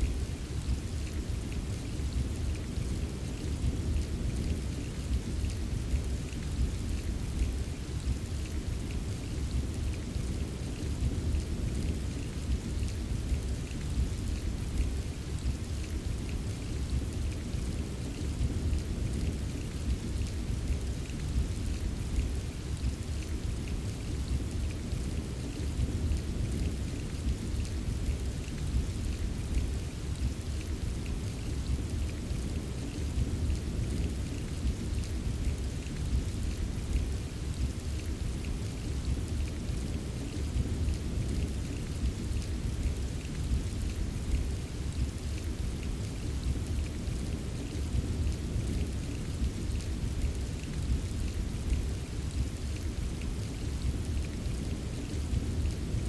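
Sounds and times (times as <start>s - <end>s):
continuous low rumble: 0.0s - 56.0s
heavy rain: 0.0s - 56.0s.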